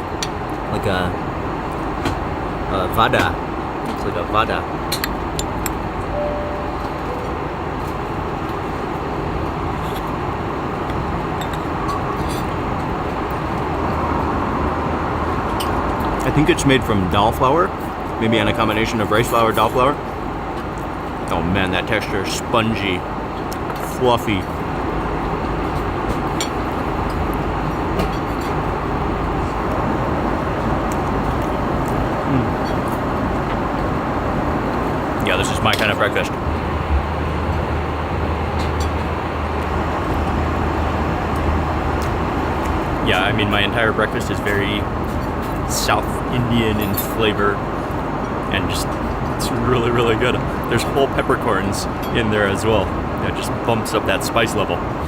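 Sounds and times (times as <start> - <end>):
airliner cabin roar: 0.0 - 55.0
jet engines and airflow rushing: 0.0 - 55.0.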